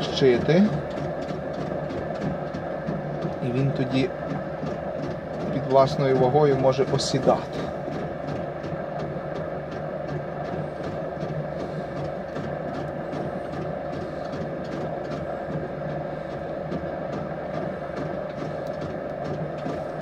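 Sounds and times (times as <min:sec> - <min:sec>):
potter's wheel motor hum: 0:00.0 - 0:20.0.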